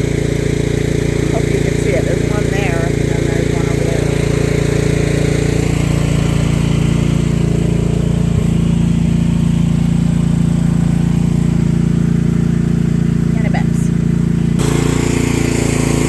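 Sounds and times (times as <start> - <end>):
digging machine engine running: 0.0 - 16.0.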